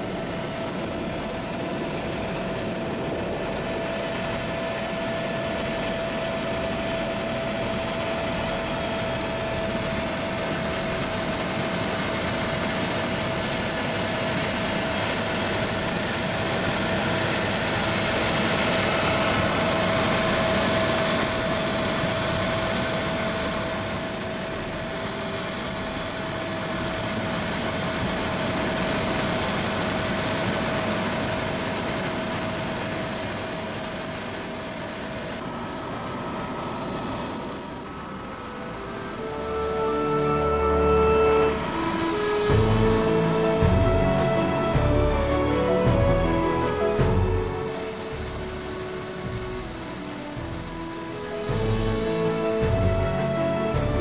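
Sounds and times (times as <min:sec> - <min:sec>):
helicopter engine and rotors droning: 0:00.0 - 0:54.0
steady whine: 0:00.0 - 0:54.0.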